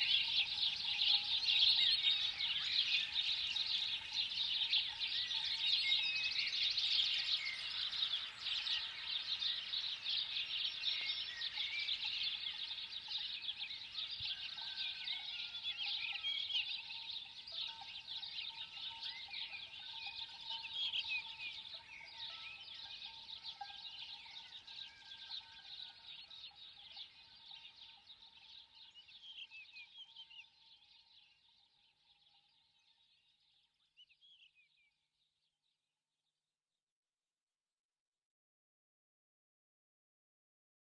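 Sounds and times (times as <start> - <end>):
small birds chirping and twittering: 0.0 - 35.6.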